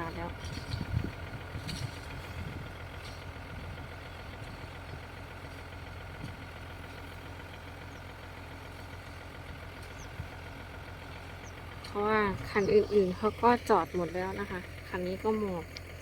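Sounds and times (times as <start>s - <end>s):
large engine idling: 0.0s - 16.0s.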